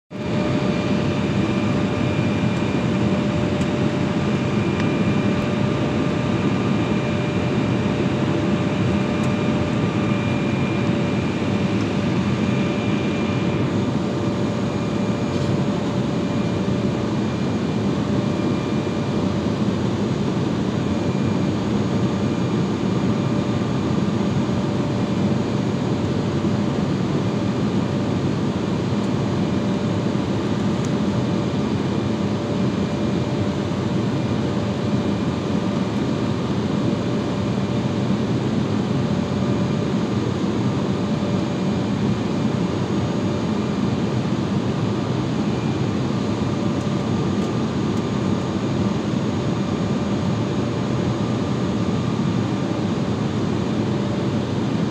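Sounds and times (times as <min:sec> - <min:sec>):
jet engines: 0:00.1 - 0:54.9.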